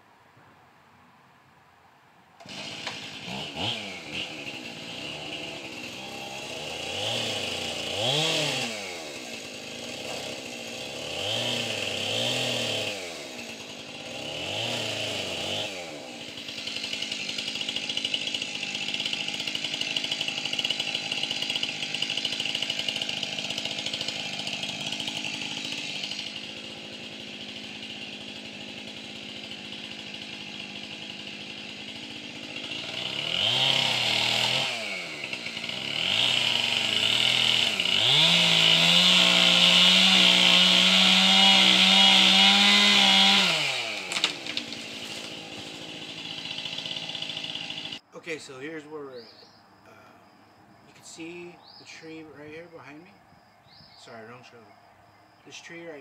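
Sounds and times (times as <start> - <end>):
chainsaw revving: 2.4 - 49.3, 50.9 - 53.1, 55.5 - 56.0.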